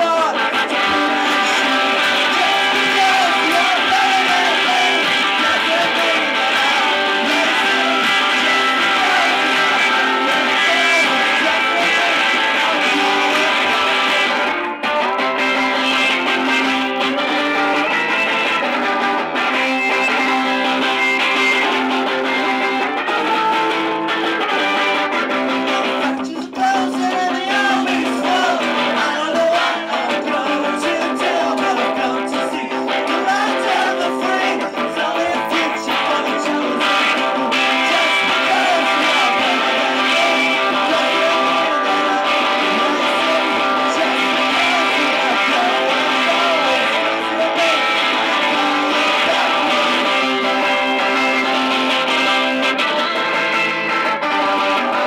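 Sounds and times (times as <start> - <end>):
man singing: 0.0 - 22.8, 25.1 - 53.4
electric guitar strummed chords: 0.0 - 55.0.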